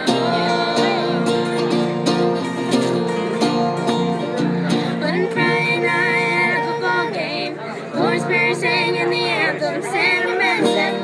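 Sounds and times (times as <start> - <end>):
person singing: 0.0 - 3.0, 4.6 - 11.0
picked acoustic guitar: 0.0 - 11.0.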